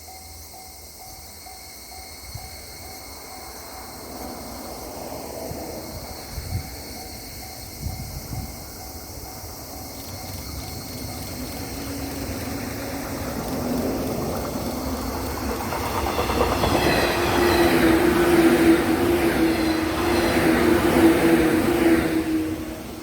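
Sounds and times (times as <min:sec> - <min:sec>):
level crossing warning bell: 0:00.0 - 0:20.8
train rumble: 0:00.0 - 0:23.0.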